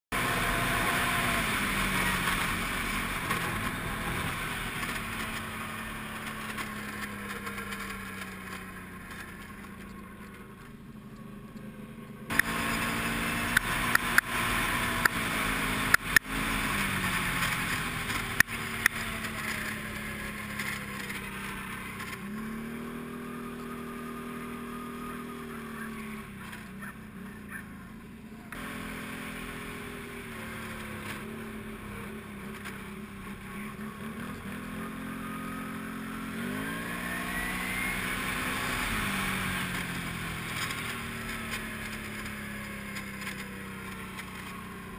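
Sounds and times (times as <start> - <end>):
atv engine revving: 0.1 - 44.9.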